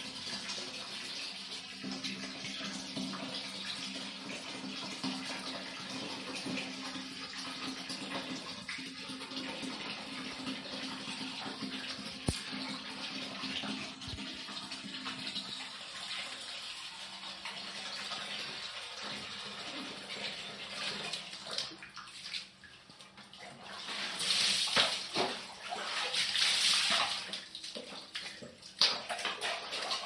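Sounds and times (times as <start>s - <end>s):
tap water running into bucket: 0.0s - 30.0s.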